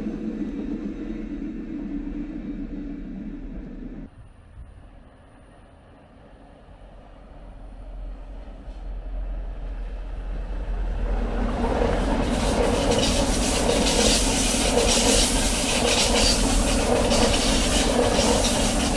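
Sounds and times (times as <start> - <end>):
train wheels on rail: 0.0 - 4.1, 6.2 - 18.9.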